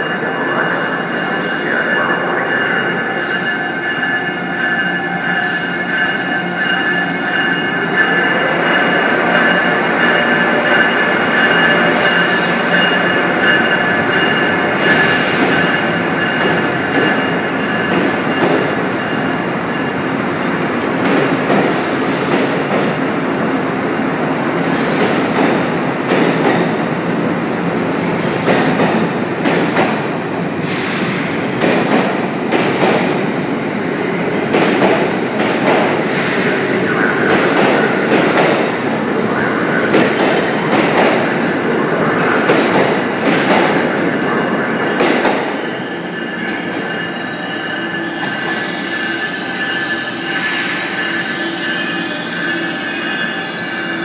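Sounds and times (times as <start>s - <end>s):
train wheels rumbling on rails: 0.0s - 52.7s.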